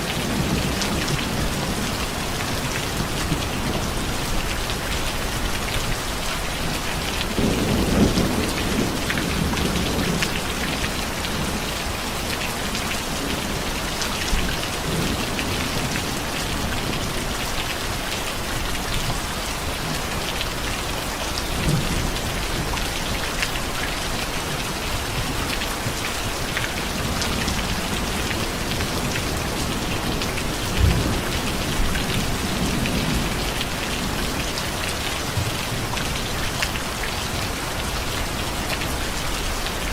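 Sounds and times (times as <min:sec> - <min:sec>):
thunder rumbling: 0:00.0 - 0:23.0, 0:24.4 - 0:34.7
steady rain falling: 0:00.0 - 0:39.9.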